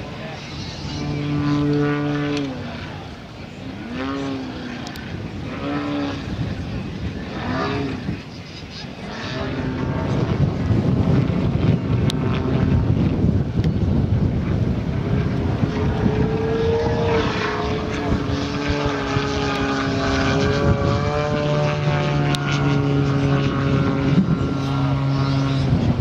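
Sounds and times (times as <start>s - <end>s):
model aircraft engine and propeller: 0.0s - 26.0s.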